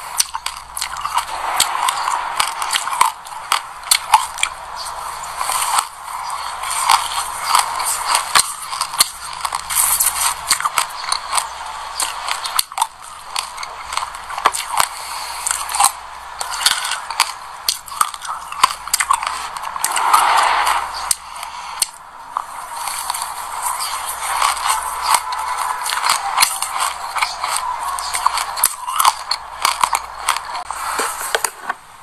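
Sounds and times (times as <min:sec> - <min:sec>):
crunchy chewing: 0:00.0 - 0:31.8.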